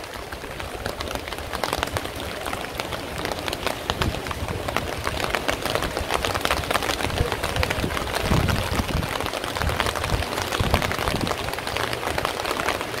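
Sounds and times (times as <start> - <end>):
raindrops pattering on surface: 0.0 - 13.0
steady rain hiss: 0.0 - 13.0.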